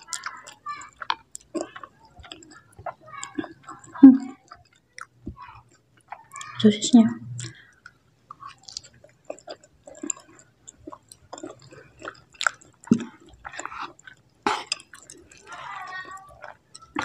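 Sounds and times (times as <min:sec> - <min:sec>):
close chewing with wet smacks: 0:00.0 - 0:17.0.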